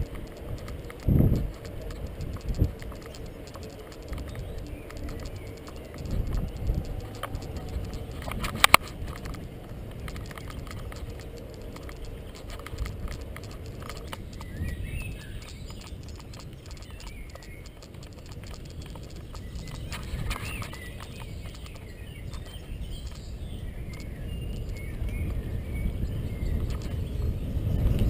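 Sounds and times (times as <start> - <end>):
bicycle rattling: 0.0 - 28.0.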